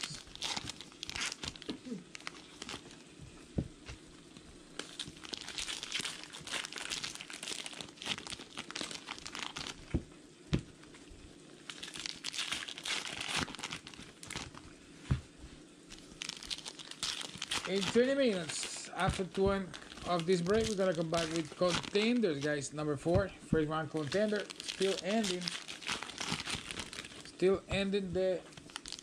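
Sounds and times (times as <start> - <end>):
wrappers tearing and crinkling: 0.0 - 3.1, 4.3 - 10.0, 11.6 - 14.7, 15.9 - 22.7, 23.7 - 29.0.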